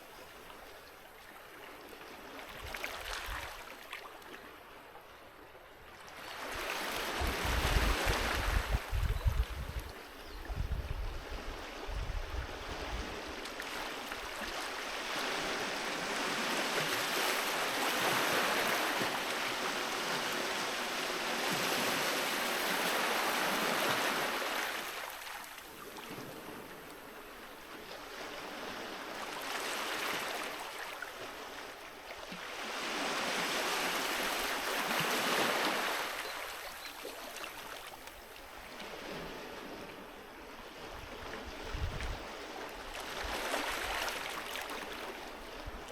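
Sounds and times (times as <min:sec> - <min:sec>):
sea waves breaking on beach: 0:06.0 - 0:08.9, 0:11.2 - 0:45.9.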